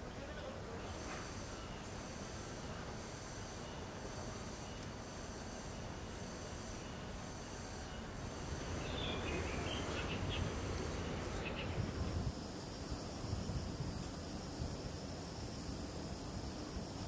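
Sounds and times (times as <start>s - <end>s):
outdoor ambience: 0.0s - 17.0s.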